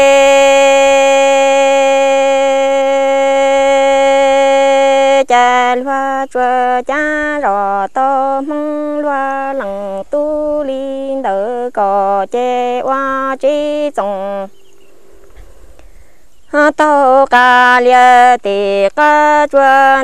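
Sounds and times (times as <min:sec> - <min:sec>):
person singing unaccompanied: 0:00.0 - 0:20.0.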